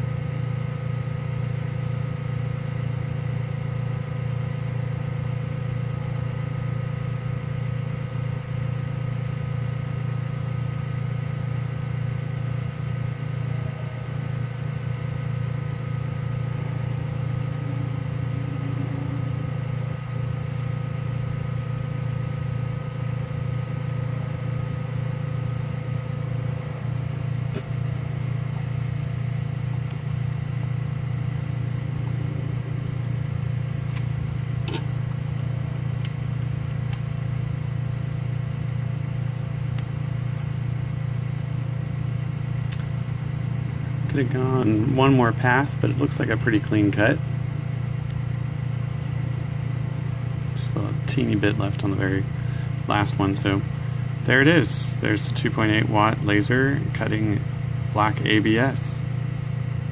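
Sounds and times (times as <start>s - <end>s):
laser cutter fans droning: 0.0s - 59.9s
thin steady whines: 0.0s - 59.9s.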